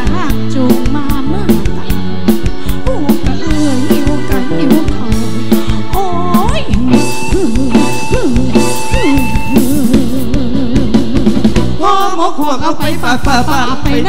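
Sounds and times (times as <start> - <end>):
drum kit and bass beat: 0.0 - 14.0
wavering lead melody: 1.0 - 14.0.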